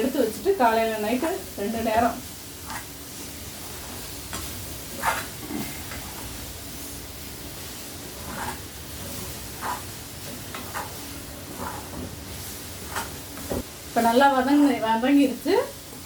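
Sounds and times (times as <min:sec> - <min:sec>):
food sizzling in oil: 0:00.0 - 0:16.0
spatula scraping and stirring: 0:01.7 - 0:16.0.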